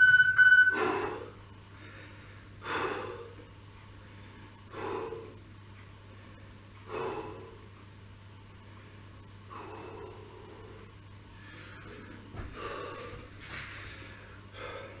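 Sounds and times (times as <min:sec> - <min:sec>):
man breathing hard: 0:00.7 - 0:07.8, 0:08.6 - 0:15.0.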